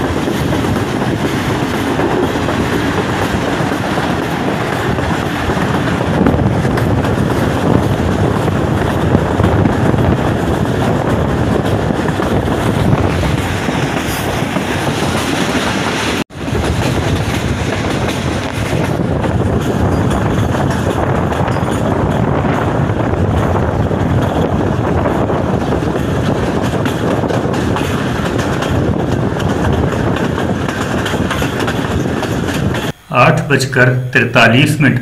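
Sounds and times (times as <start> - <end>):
wheels clattering over rail joints: 0.0 - 32.9
train rumble: 0.0 - 35.0.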